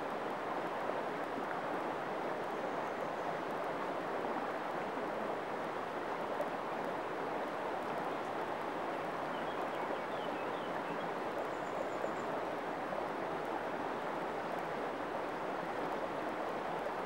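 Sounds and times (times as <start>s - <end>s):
river water flowing over pebbles: 0.0s - 17.0s.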